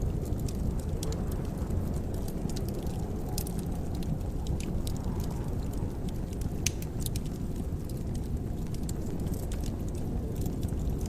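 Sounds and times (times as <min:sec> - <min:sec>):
low rumble of fire: 0:00.0 - 0:11.0
wood fire crackling and popping: 0:00.0 - 0:11.0.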